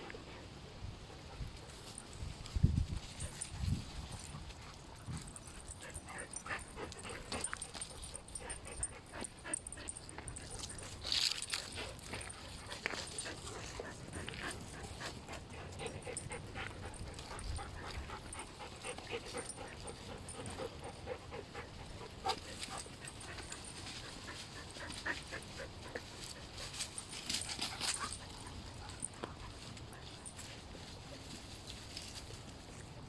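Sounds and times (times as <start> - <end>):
rustling and clicking: 1.6 - 33.0.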